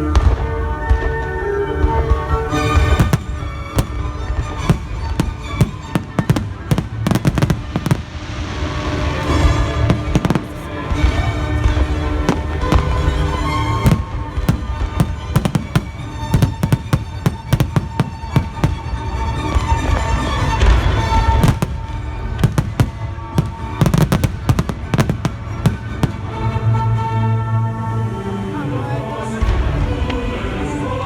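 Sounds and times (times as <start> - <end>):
fireworks bangs: 1.8 - 27.2.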